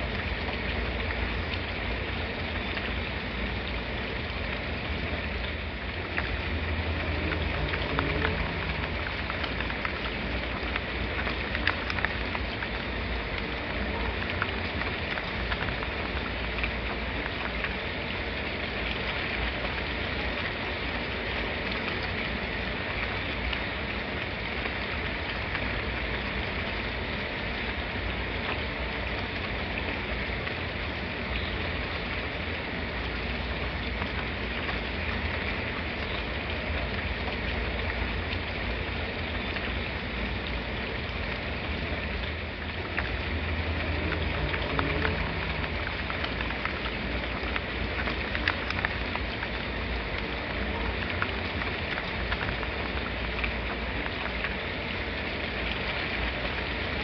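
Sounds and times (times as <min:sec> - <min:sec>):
rain falling: 0:00.0 - 0:57.0
sharp drip ticks: 0:00.0 - 0:57.0.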